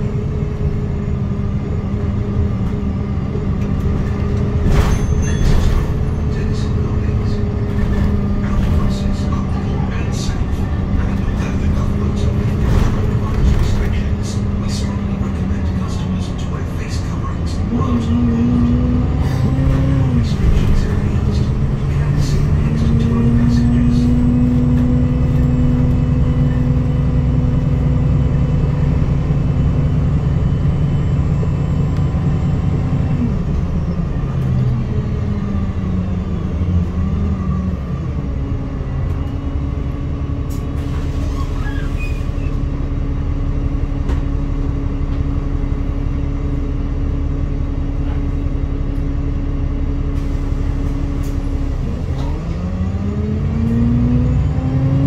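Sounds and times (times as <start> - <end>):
bus engine hum: 0.0 - 55.0
road noise: 0.0 - 55.0.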